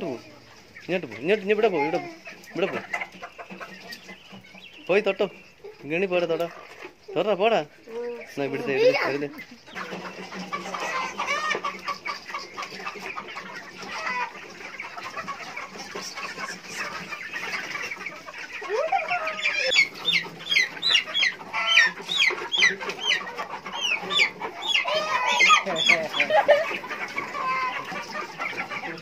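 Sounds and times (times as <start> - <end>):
chickens clucking and calling: 0.0 - 29.0.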